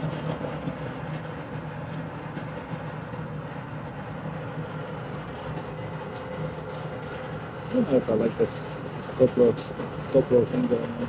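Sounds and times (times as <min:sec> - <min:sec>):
air conditioning unit humming: 0:00.0 - 0:11.0.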